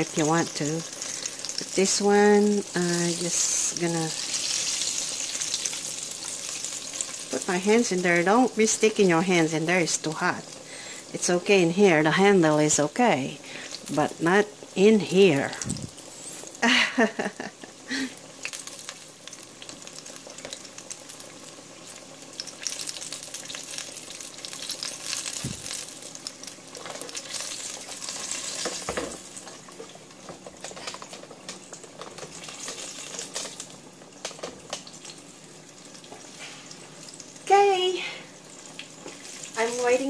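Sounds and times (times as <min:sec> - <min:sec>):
oil sizzling and crackling: 0:00.0 - 0:40.0.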